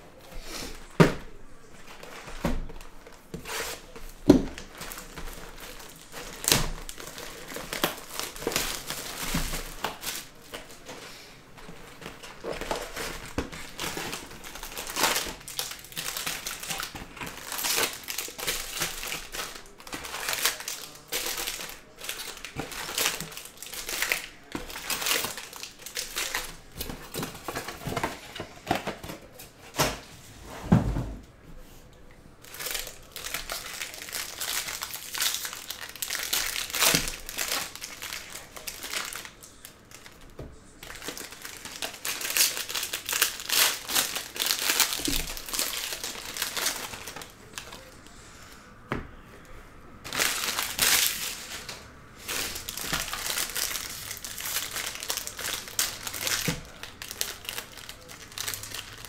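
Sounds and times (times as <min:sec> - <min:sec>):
packaging crinkling and rustling: 0:00.2 - 0:30.1, 0:32.4 - 0:48.2, 0:50.0 - 0:59.0.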